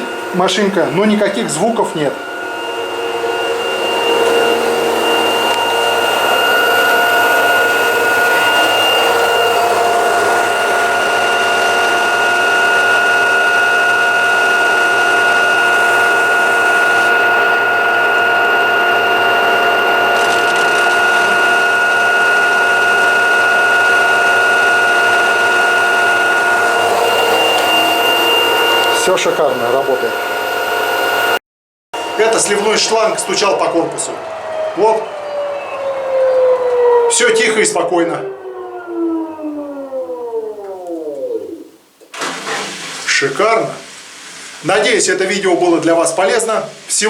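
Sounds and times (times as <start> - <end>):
washing machine spinning: 0.0 - 31.4, 32.0 - 47.0.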